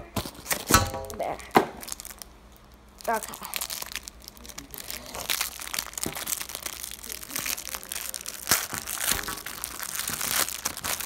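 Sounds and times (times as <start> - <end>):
plastic wrapper crinkling: 0.2 - 11.0.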